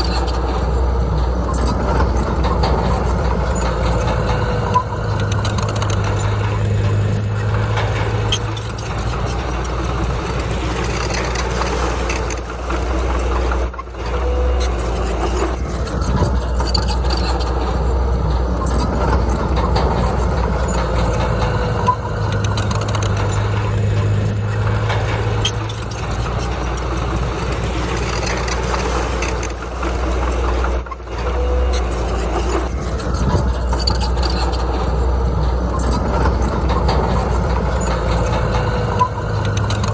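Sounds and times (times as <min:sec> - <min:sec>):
heavy diesel engine rumbling: 0:00.0 - 0:39.9.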